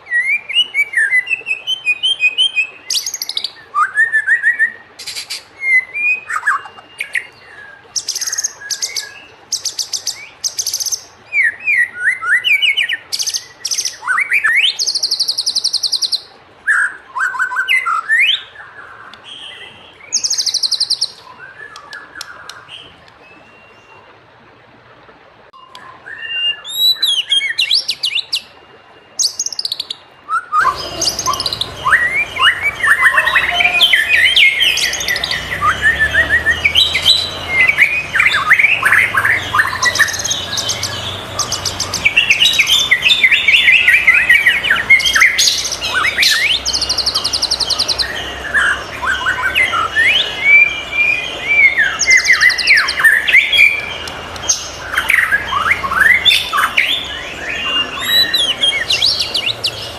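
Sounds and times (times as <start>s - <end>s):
bird singing whistles and trills: 0.0s - 24.1s, 25.6s - 59.9s.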